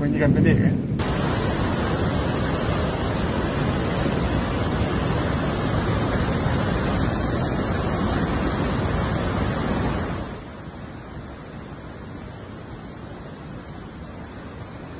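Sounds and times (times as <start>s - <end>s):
storm wind: 0.0s - 14.9s
torrential rain: 1.0s - 14.9s.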